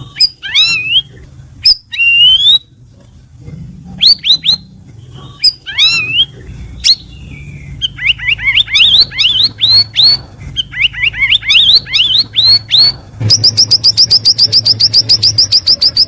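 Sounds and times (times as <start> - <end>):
bulbul whistled song: 0.2 - 2.7, 4.0 - 4.7, 5.4 - 16.0.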